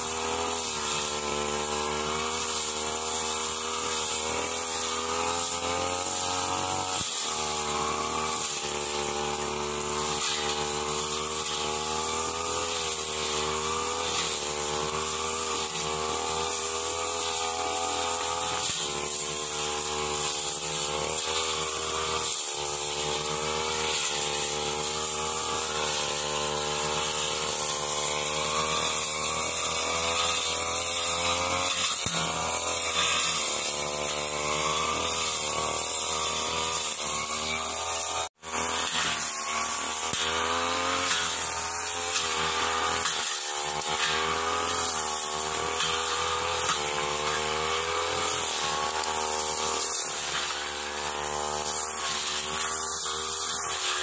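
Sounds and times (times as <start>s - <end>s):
blade cutting grass and weeds: 0.0s - 54.0s
brush cutter engine running: 0.0s - 54.0s.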